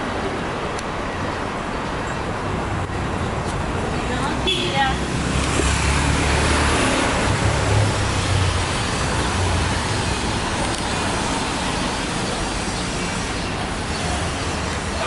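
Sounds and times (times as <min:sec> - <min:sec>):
road noise from passing cars: 0:00.0 - 0:15.0.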